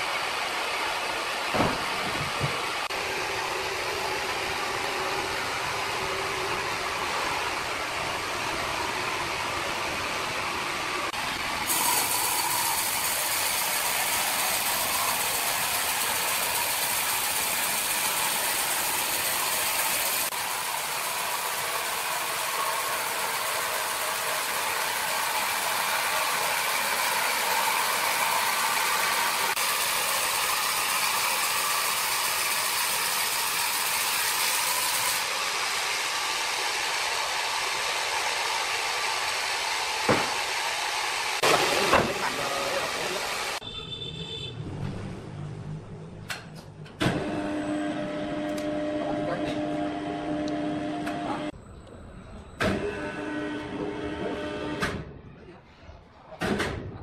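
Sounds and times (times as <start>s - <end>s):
sawmill machinery running: 0.0s - 43.6s, 47.0s - 51.6s, 52.3s - 55.0s.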